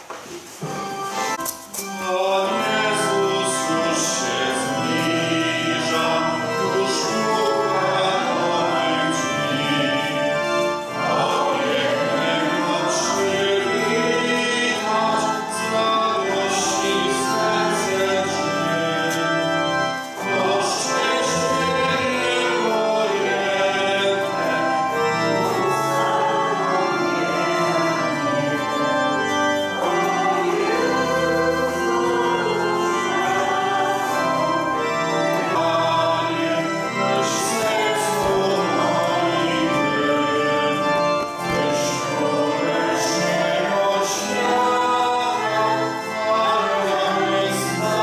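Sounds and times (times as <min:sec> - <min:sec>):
organ chords: 0:00.6 - 0:48.0
voices singing a hymn: 0:00.6 - 0:48.0.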